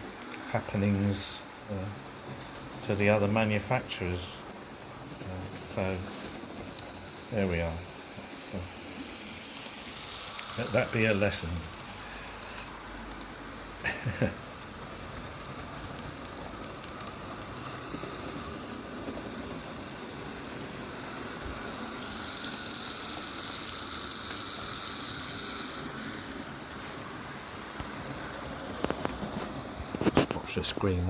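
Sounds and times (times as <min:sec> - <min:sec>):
wheel noise on rails: 0:00.0 - 0:31.0
electric motor hum: 0:02.5 - 0:30.1.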